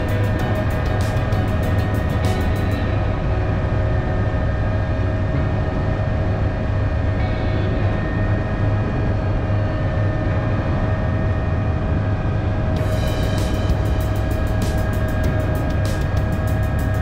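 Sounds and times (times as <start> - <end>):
helicopter engine and rotor: 0.0 - 17.0
turbine and gearbox whine: 0.0 - 17.0.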